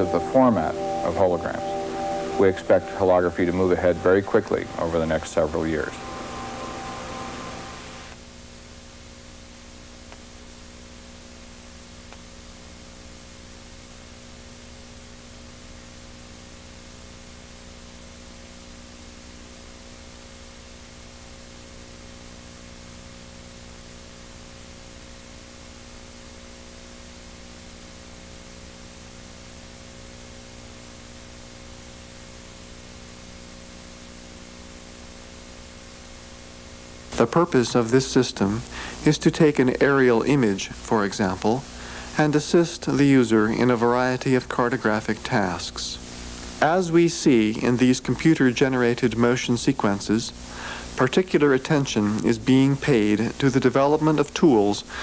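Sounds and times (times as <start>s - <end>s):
electrical mains hum: 0.0s - 55.0s
tape hiss: 0.0s - 55.0s.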